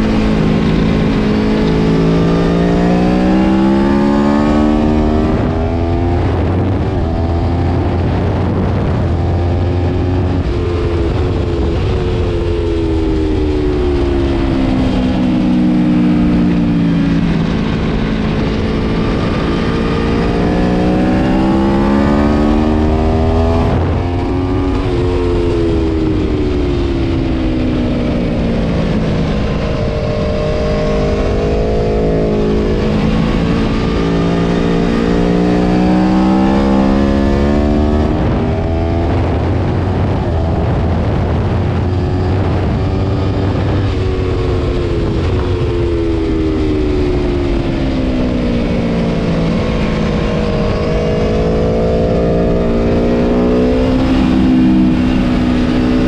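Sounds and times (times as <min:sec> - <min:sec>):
motorcycle engine at racing speed: 0:00.0 - 0:56.0.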